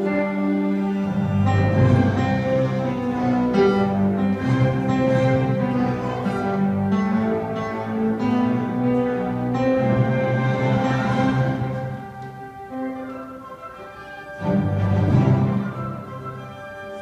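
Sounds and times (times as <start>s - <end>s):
keyboards playing slow chords: 0.0s - 17.0s.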